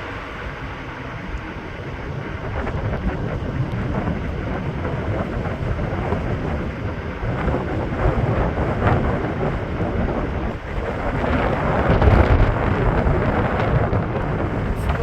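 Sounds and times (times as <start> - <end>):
wind gusting against microphone: 0.0 - 15.0.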